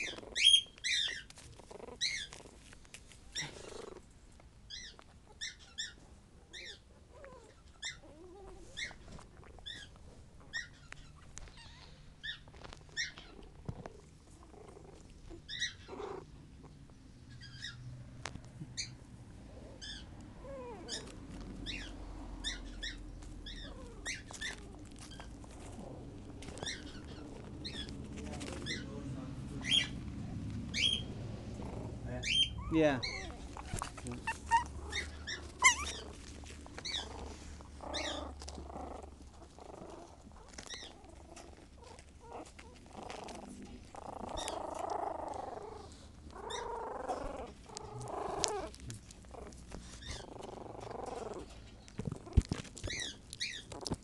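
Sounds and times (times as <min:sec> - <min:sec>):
puppies whimpering and squeaking: 0:00.0 - 0:04.0, 0:04.7 - 0:17.8, 0:18.7 - 0:54.0.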